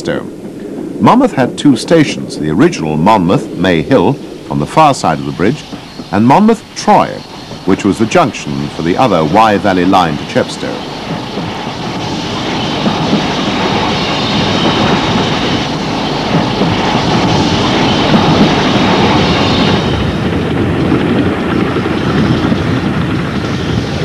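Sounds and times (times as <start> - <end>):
train wheels clattering over rails: 0.0 - 24.0.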